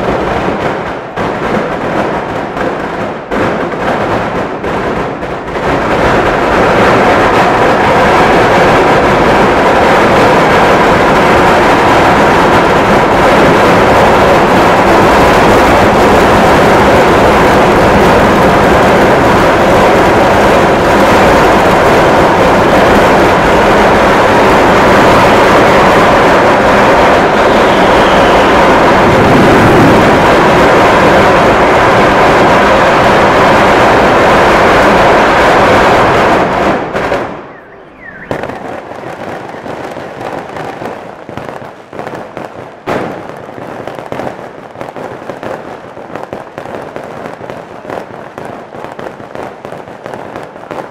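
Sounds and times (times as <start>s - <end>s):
fireworks barrage roaring: 0.0s - 50.9s
scattered firework bangs and crackles: 0.0s - 50.9s.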